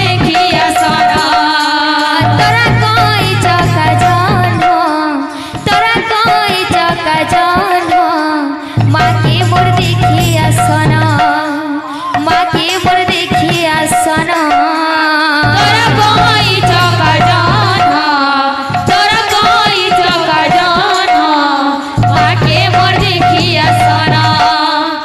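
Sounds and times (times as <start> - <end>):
drum accompaniment: 0.0 - 25.0
woman singing through microphone: 0.0 - 25.0.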